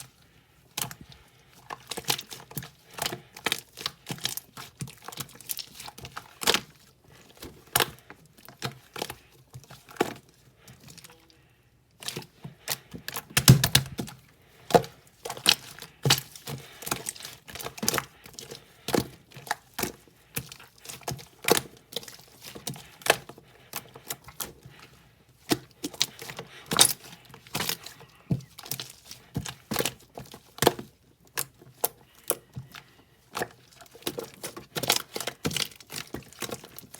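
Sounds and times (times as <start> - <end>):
handling clicks and crackles: 0.0 - 36.9.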